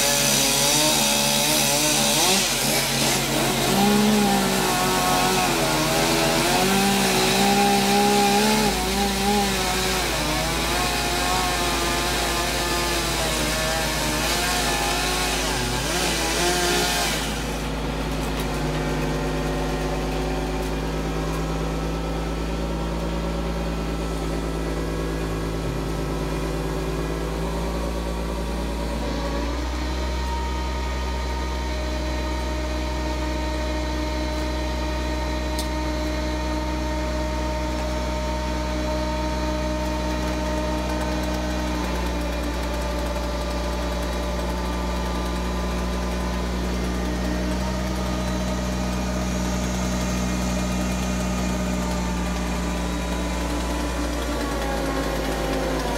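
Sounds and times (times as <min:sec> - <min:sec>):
crane engine running: 0:00.0 - 0:55.9.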